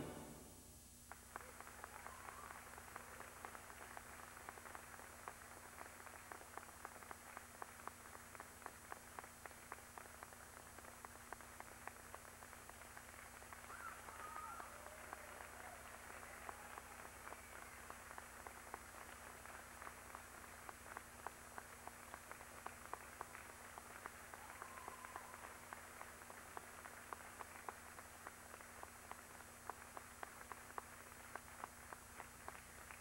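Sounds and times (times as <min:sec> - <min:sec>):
audience applauding: 0:00.0 - 0:00.4, 0:01.1 - 0:33.0.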